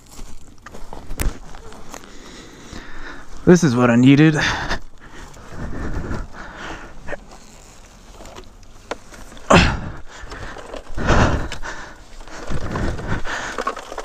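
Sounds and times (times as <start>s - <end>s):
scuffling and rustling on dirt: 0.0s - 14.0s.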